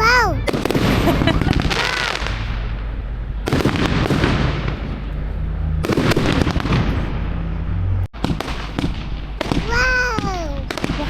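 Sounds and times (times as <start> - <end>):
fireworks crackling: 0.0 - 7.4, 8.2 - 11.0
fireworks bursts: 0.0 - 7.6, 8.2 - 11.0.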